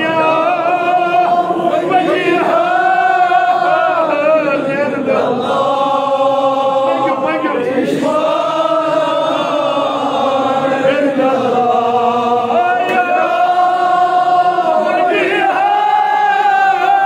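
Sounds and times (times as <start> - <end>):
male voices chanting elegy: 0.0 - 17.0.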